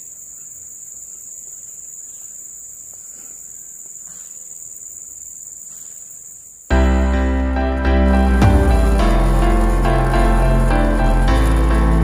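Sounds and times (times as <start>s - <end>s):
fast pulsing insect trill: 0.0s - 12.0s
insects trilling: 0.0s - 12.0s.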